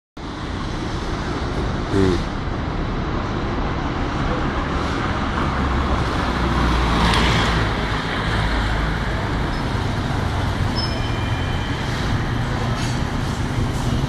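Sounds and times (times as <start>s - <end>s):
distant road traffic rumble: 0.2s - 14.0s.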